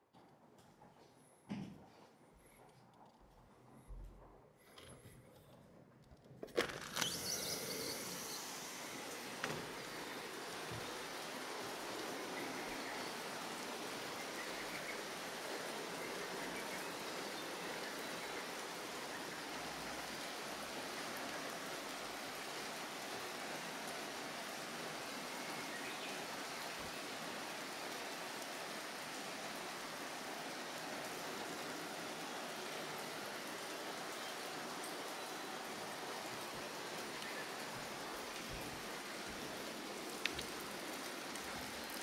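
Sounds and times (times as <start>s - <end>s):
rain on leaves and pavement: 6.6s - 42.0s.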